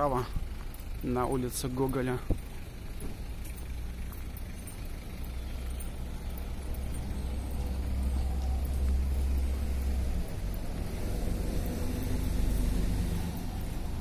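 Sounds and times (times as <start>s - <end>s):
passing vehicle engine rumble: 0.0s - 14.0s
street traffic: 0.0s - 14.0s.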